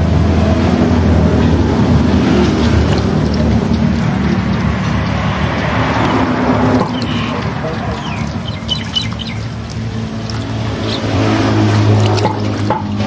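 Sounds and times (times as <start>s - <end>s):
loud low engine drone: 0.0s - 13.0s.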